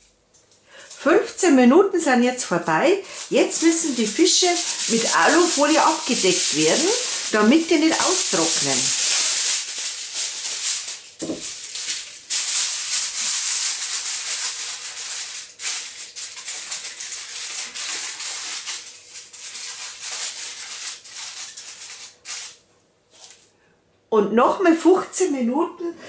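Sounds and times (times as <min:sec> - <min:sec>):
aluminium foil crinkling: 0:00.7 - 0:23.5.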